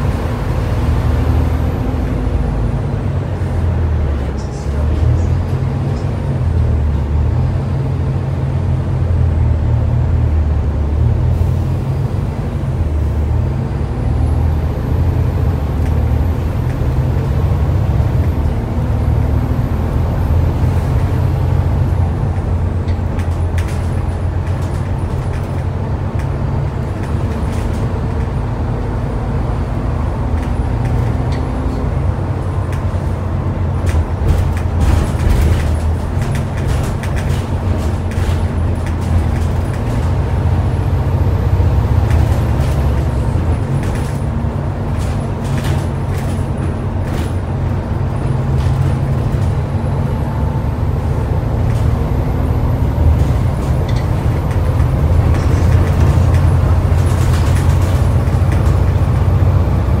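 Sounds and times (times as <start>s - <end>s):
bus body clicks and rattles: 0.0s - 60.0s
bus diesel engine running: 0.0s - 60.0s.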